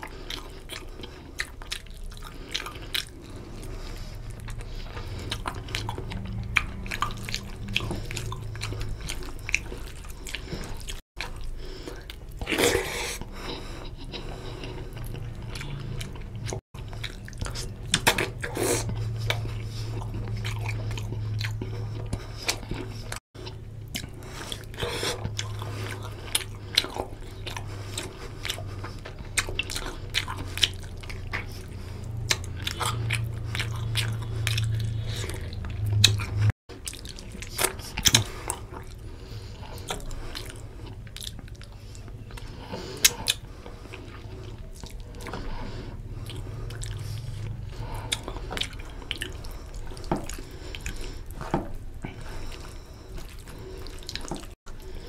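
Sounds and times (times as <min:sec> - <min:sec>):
man chewing and lip-smacking: 0:00.0 - 0:55.0
steady low hum: 0:00.0 - 0:55.0.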